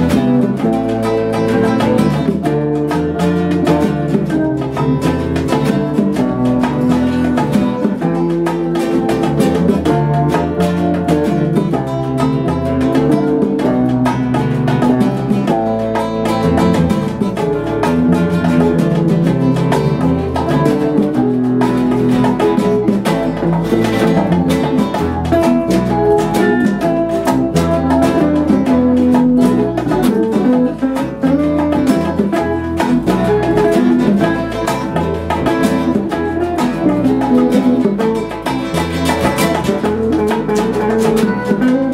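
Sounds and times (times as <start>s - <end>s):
acoustic guitar playing: 0.0s - 41.9s
electric guitar playing: 0.0s - 41.9s.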